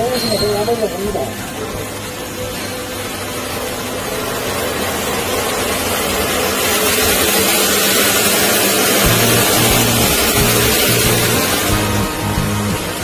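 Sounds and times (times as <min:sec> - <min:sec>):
fan rushing air: 0:00.0 - 0:13.0.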